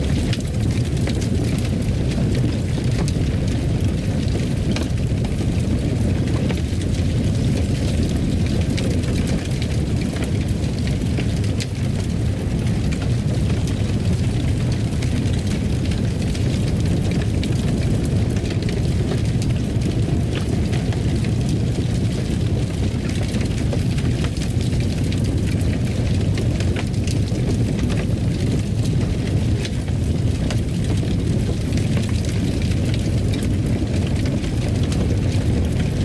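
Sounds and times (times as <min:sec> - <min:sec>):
fire crackling: 0:00.0 - 0:36.0
low rumble: 0:00.0 - 0:36.0.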